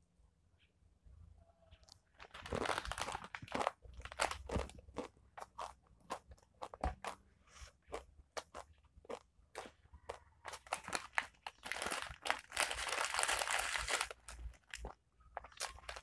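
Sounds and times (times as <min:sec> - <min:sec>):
chewing crisps crunching: 0:01.9 - 0:07.3, 0:07.9 - 0:16.0.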